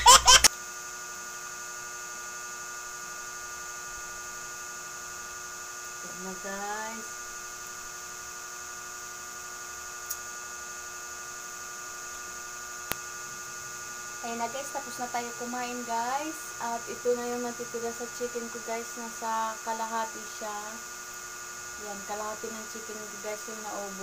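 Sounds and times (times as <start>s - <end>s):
electrical hum with high whine: 0.0s - 24.0s.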